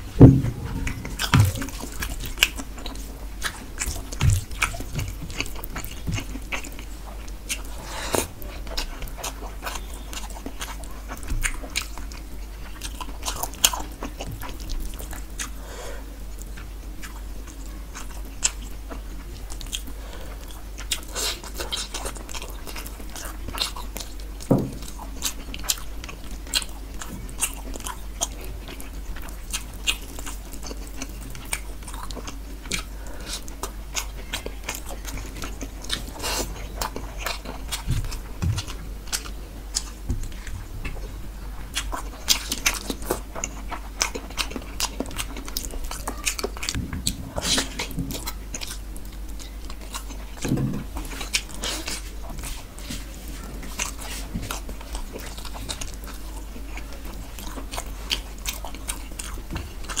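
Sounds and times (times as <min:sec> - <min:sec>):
man chewing food: 0:00.0 - 1:00.0
steady low hum: 0:00.0 - 1:00.0.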